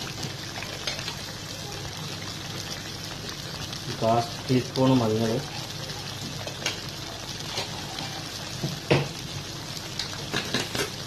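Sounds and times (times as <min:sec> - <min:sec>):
chicken sizzling and popping: 0:00.0 - 0:11.0.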